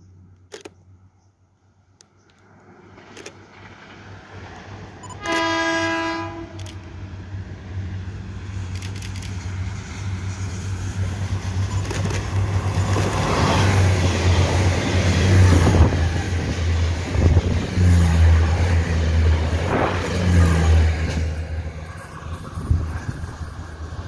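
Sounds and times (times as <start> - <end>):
diesel train engine drone: 0.0 - 24.0
train wheels rumbling on rails: 2.3 - 24.0.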